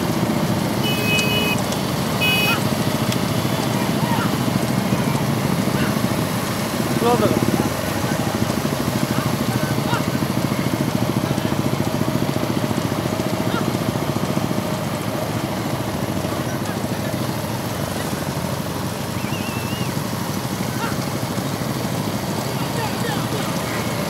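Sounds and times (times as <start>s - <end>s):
motorcycle engines running: 0.0s - 24.0s.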